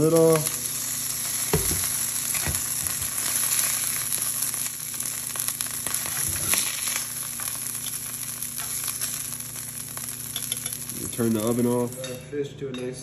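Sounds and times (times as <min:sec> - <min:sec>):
fish sizzling in hot oil: 0:00.0 - 0:12.1.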